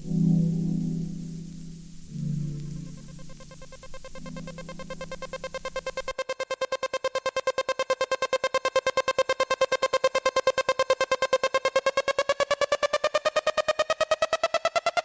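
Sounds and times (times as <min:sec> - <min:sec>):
pulsing synthesizer note: 0:00.0 - 0:15.0.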